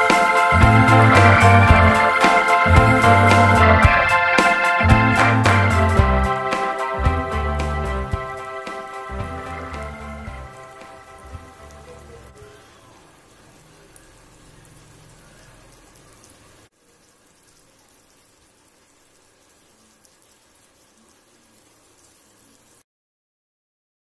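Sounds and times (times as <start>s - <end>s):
gravy sizzling in a pan: 0.0s - 22.8s.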